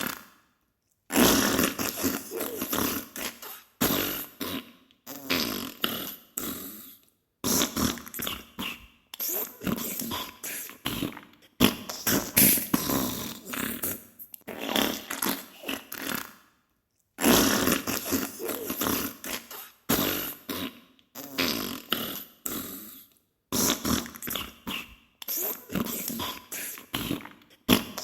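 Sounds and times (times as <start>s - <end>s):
wet sputtering farts: 1.1s - 6.7s, 7.4s - 10.3s, 10.9s - 16.4s, 17.2s - 22.8s, 23.6s - 26.4s.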